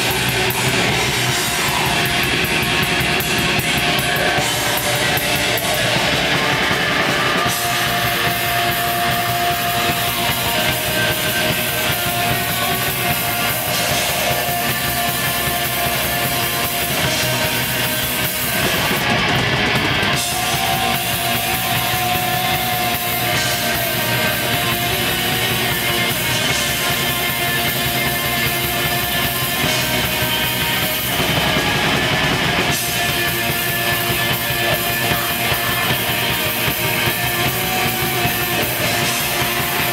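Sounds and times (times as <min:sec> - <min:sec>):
distorted guitars: 0:00.0 - 0:39.9
drums: 0:00.0 - 0:39.9.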